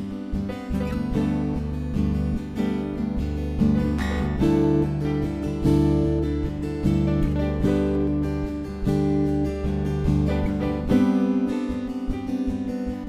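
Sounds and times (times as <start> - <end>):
strummed guitar music: 0.0 - 13.0.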